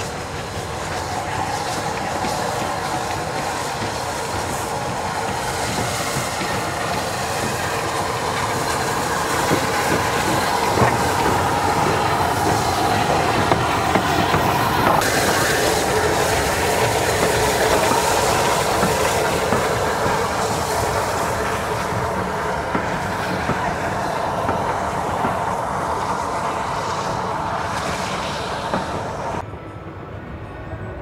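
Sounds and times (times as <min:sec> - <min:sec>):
train wheels clacking: 0:00.0 - 0:29.5.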